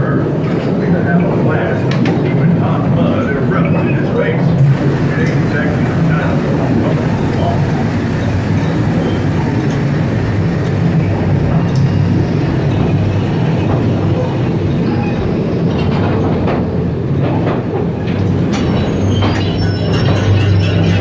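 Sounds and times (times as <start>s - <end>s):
ride cars rumbling on track: 0.0s - 21.0s
wheels clacking over rails: 0.0s - 21.0s.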